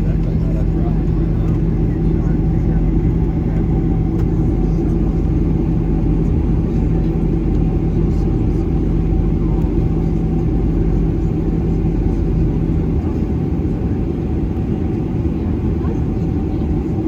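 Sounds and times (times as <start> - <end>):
aircraft cabin rumble: 0.0 - 17.0
steady low hum: 0.0 - 17.0.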